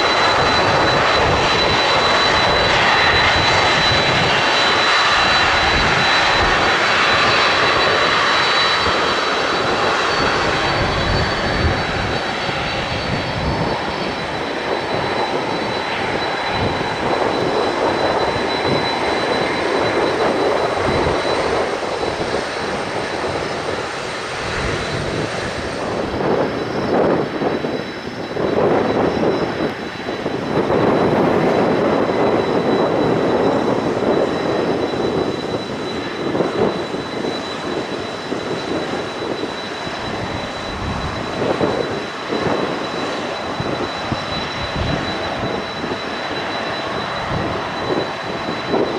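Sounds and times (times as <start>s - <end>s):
jet engines whining: 0.0s - 48.9s
wind buffeting microphone: 0.0s - 48.9s.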